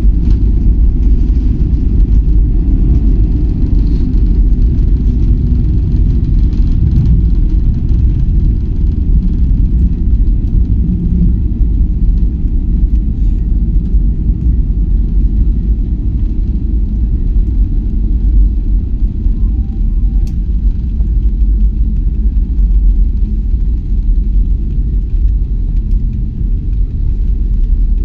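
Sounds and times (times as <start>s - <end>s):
vehicle interior rumble: 0.0s - 28.0s.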